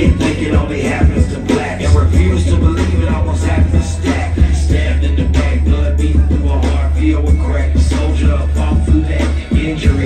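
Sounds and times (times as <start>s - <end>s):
hip hop beat with heavy bass: 0.0s - 10.0s
person rapping: 0.0s - 10.0s.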